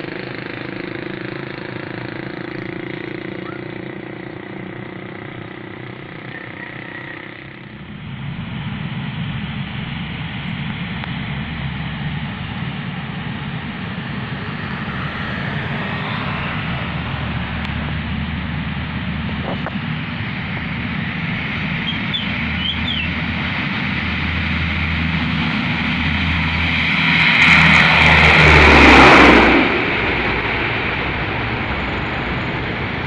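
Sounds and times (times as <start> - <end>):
turboprop engines droning: 0.0 - 33.0.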